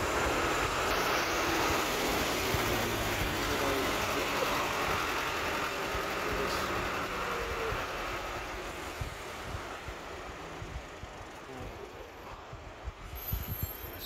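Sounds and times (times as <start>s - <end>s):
passing vehicle rushing: 0.0s - 11.7s.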